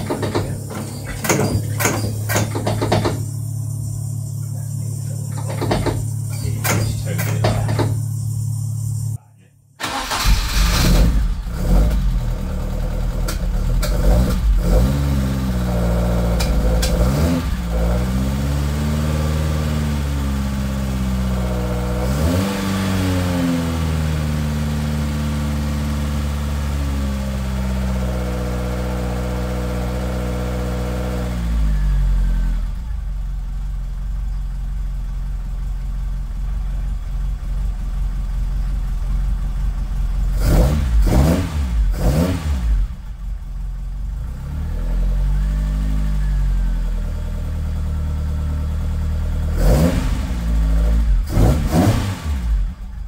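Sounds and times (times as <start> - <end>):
car engine revving: 0.0 - 9.2, 9.8 - 33.1, 37.9 - 53.0.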